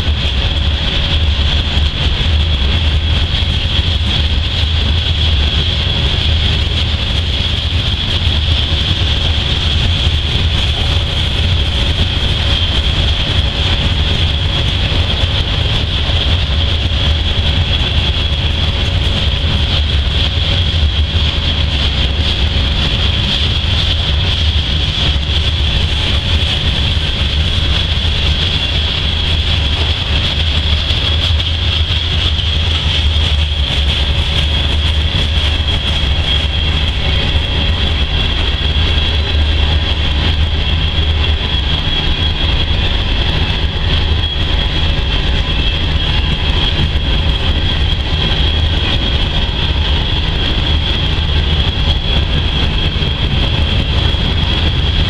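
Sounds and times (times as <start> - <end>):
freight train wheels rumbling: 0.0 - 55.0
high-pitched whine: 0.0 - 55.0.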